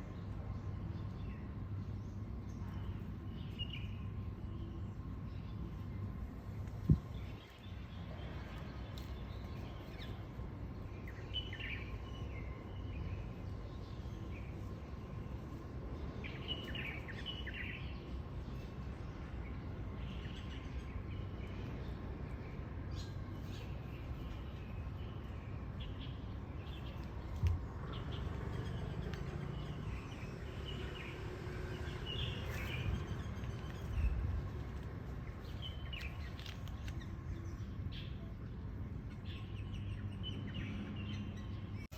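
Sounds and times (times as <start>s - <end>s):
low outdoor rumble: 0.0s - 41.9s
small birds chirping: 0.0s - 41.9s.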